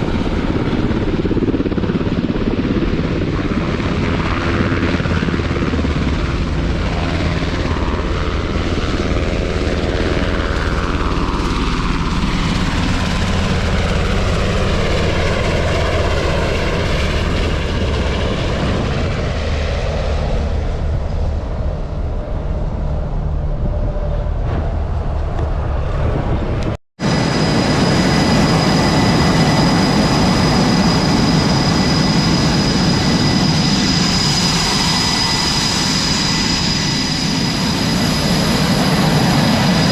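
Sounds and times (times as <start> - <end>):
jet aircraft engines: 0.0 - 39.9
jet engine high whine: 0.0 - 39.9.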